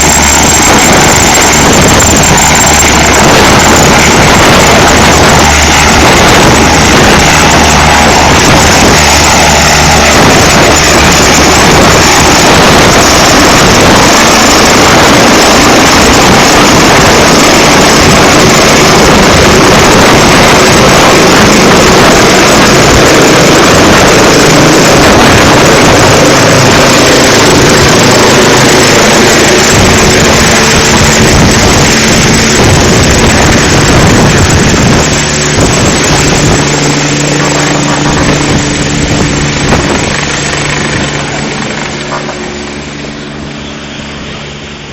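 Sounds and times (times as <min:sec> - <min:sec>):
helicopter rotor and turbine: 0:00.0 - 0:44.9.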